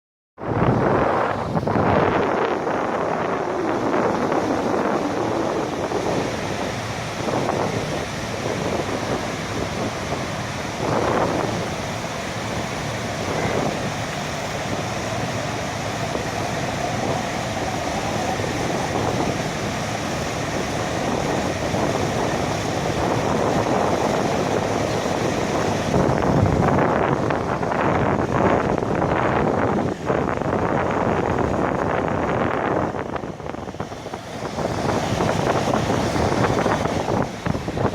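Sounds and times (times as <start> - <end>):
wind buffeting microphone: 0.4 - 37.9
waterfall rushing: 0.6 - 37.9
highway traffic: 0.8 - 37.9.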